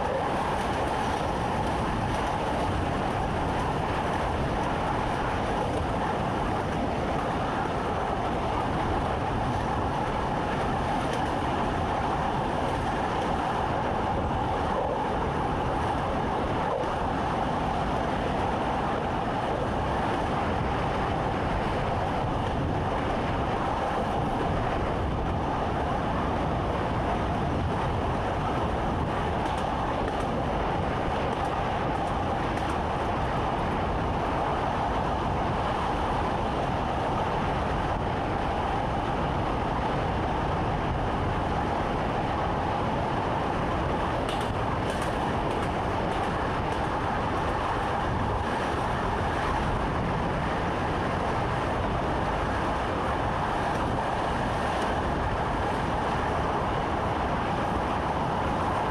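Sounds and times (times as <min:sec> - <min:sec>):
constant hum: 0:00.0 - 0:58.9
train rumbling along track: 0:00.0 - 0:58.9.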